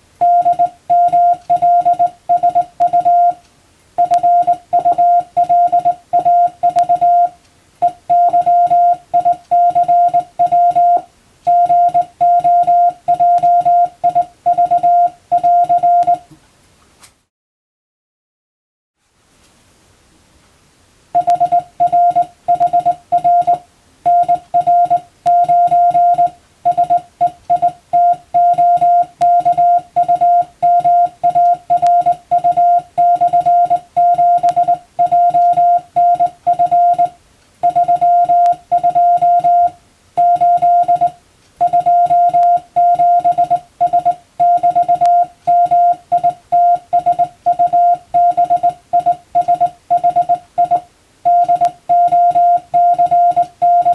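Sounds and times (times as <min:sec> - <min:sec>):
morse code beeps: 0:00.2 - 0:03.4, 0:04.0 - 0:16.3, 0:21.2 - 0:53.9.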